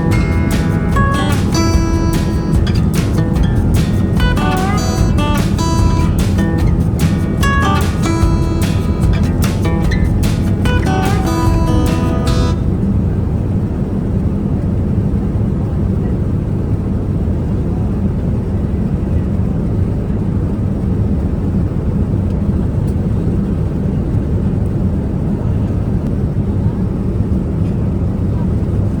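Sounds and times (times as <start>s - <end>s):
airplane engines and airflow rumble: 0.0s - 29.0s.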